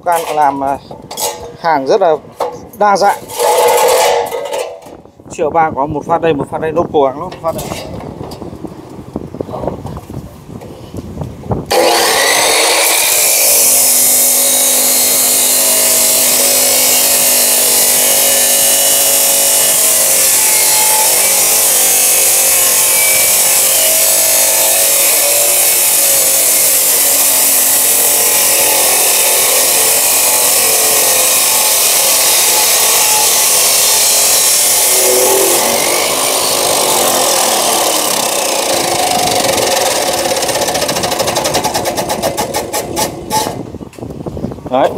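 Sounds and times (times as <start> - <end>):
cut-off saw grinding steel: 0.0 - 4.8, 11.7 - 43.6.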